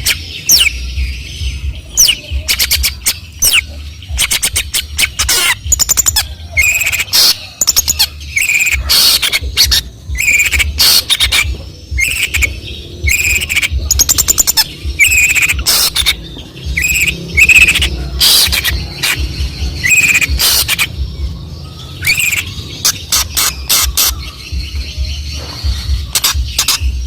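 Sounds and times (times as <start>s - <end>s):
bird singing harsh chattering: 0.0s - 27.0s.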